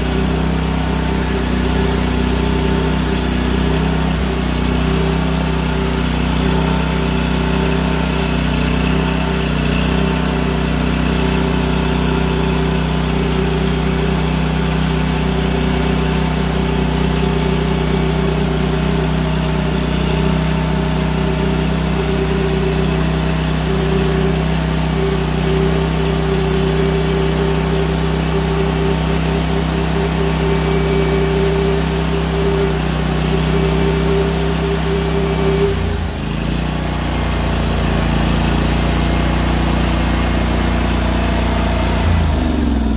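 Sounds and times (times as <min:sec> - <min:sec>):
band sawmill cutting a log: 0:00.0 - 0:42.9.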